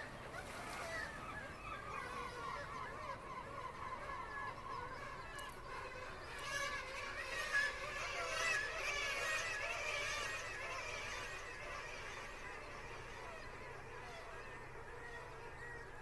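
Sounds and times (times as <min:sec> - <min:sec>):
chorus of animal calls: 0:00.0 - 0:16.0.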